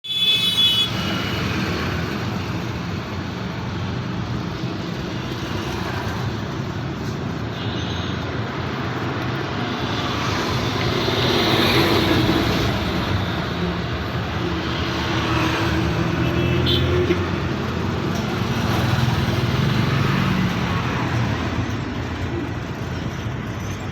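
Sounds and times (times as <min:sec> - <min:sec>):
road traffic: 0:00.0 - 0:23.9.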